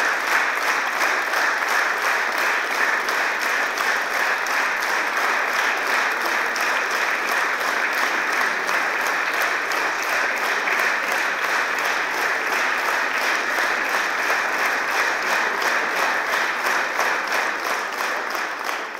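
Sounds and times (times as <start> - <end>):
audience applauding: 0.0 - 18.9.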